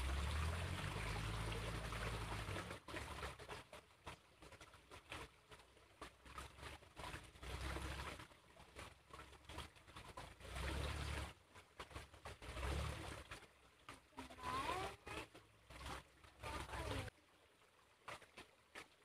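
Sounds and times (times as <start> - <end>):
small stream trickling: 0.0 - 19.0.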